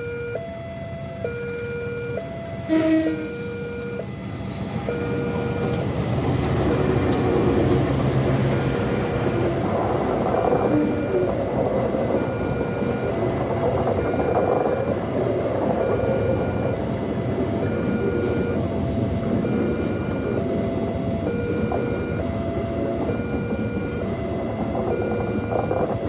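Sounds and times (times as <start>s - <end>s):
two-note electronic warning tone: 0.0s - 5.9s, 10.3s - 26.0s
train wheels rumbling on rails: 2.2s - 26.0s.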